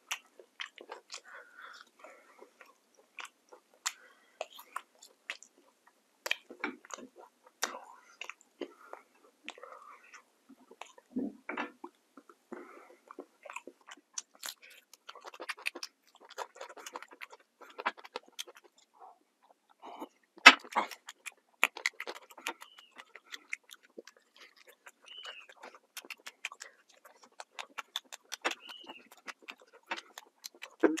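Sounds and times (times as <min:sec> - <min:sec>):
wet chewing and lip-smacking: 0:00.0 - 0:31.0.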